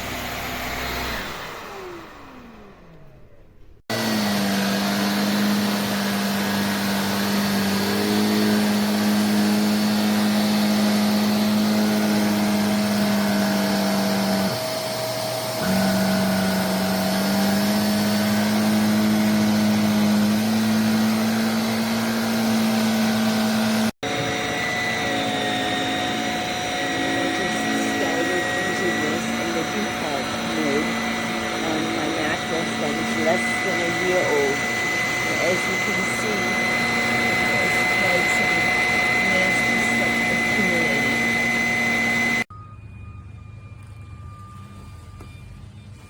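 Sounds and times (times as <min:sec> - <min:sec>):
handheld vacuum cleaner hum: 0:00.0 - 0:42.5.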